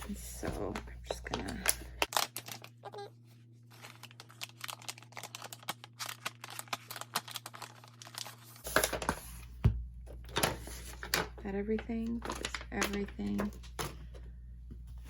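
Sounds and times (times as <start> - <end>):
plastic bag crinkling: 0.1 - 9.3, 10.2 - 13.8.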